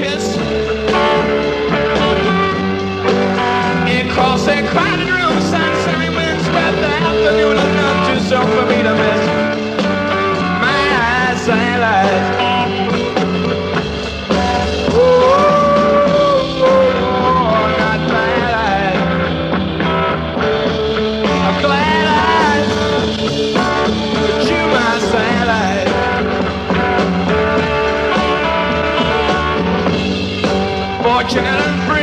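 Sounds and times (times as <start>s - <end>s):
bending lead guitar melody: 0.0s - 32.0s
rock band playing: 0.0s - 32.0s.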